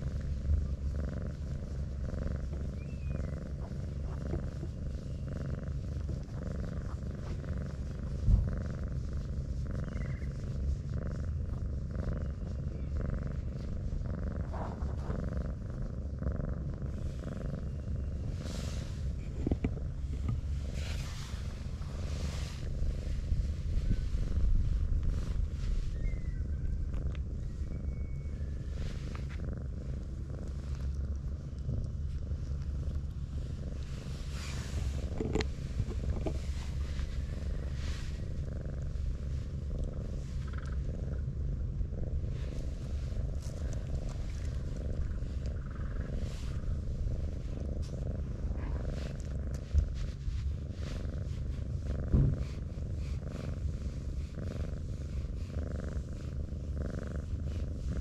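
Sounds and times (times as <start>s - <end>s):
scratchy rustles: 0.0s - 27.6s, 28.2s - 41.2s, 42.1s - 58.0s
cat purring: 0.0s - 58.0s.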